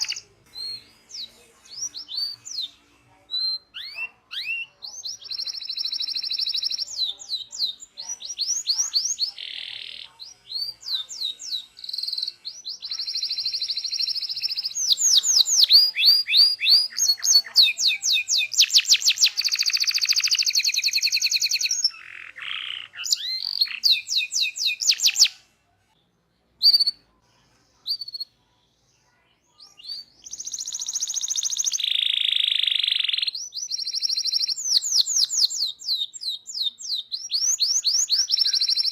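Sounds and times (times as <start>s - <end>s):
canary singing trills: 0.0s - 25.6s, 26.6s - 27.2s, 27.8s - 28.4s, 29.1s - 38.9s.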